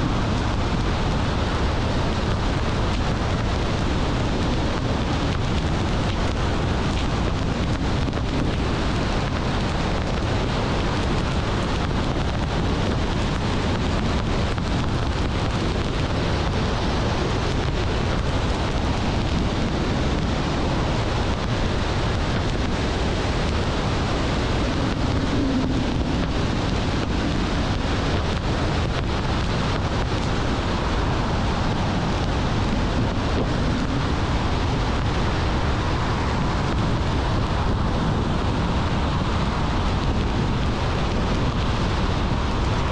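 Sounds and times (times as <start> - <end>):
car road and wind noise: 0.0 - 42.9.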